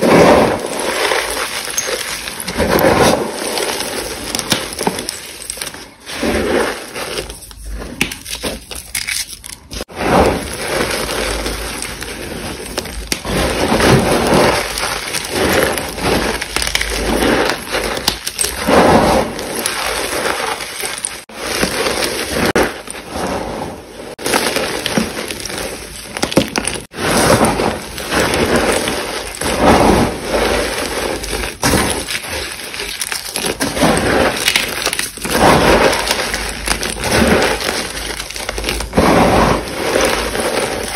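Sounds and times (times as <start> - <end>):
chalk crunching by hand: 0.0 - 40.9.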